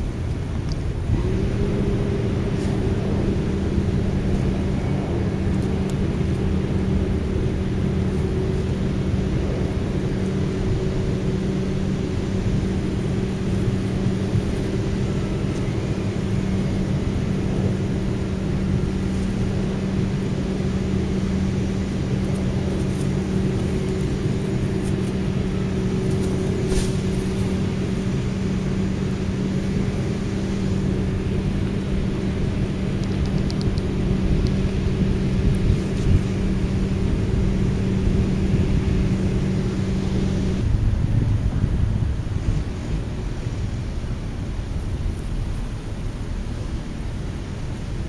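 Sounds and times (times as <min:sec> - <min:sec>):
low rumble: 0:00.0 - 0:48.0
mechanical hum: 0:00.0 - 0:48.0.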